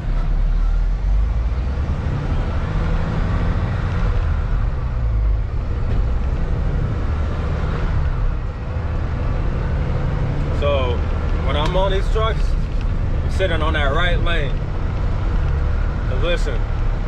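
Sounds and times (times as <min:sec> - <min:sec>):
truck engine drone: 0:00.0 - 0:17.0
tyre and road noise: 0:00.0 - 0:17.0.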